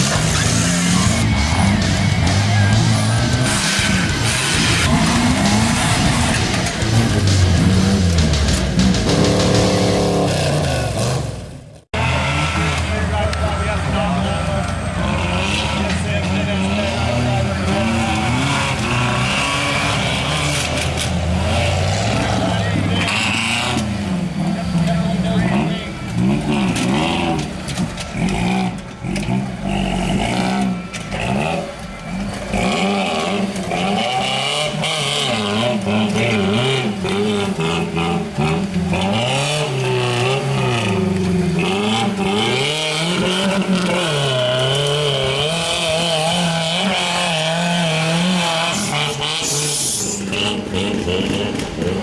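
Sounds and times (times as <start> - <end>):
truck engine revving: 0.0 - 52.0.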